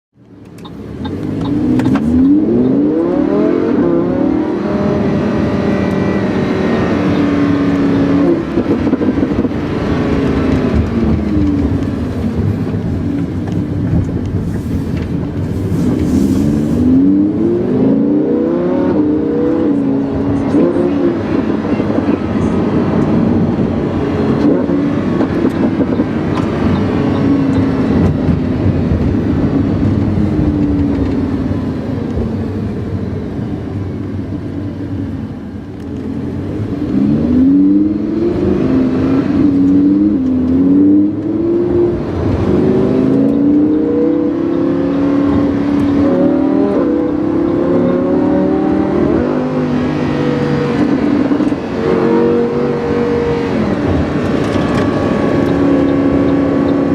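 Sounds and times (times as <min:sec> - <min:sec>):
sports car engine revving: 0:00.4 - 0:56.9.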